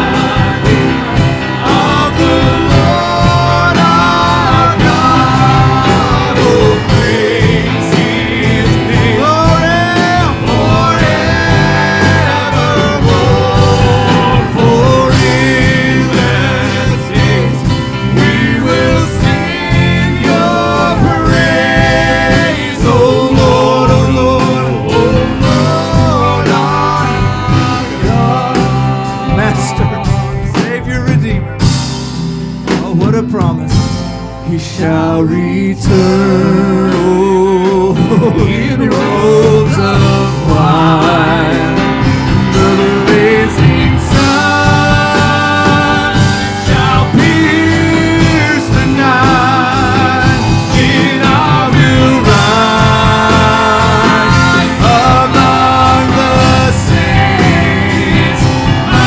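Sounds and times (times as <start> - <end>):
guitar: 0.0 - 59.0
people singing: 0.0 - 59.0
worship band playing: 0.0 - 59.0.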